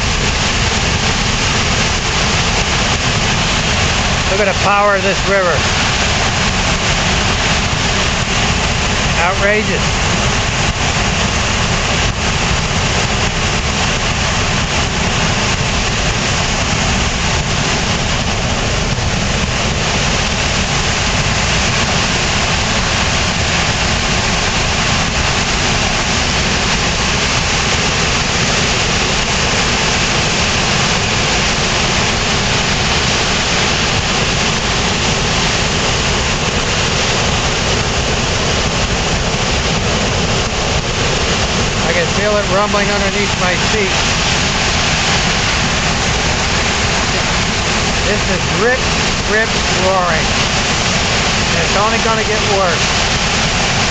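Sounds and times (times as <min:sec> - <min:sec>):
roar of rushing water: 0:00.0 - 0:53.9.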